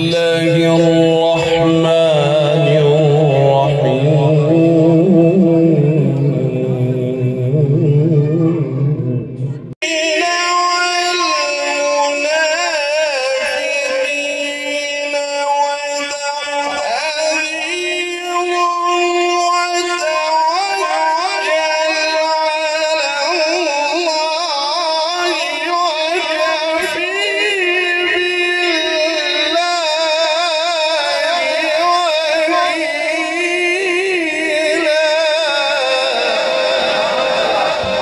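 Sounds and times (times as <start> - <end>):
man chanting into microphone: 0.0 - 38.0.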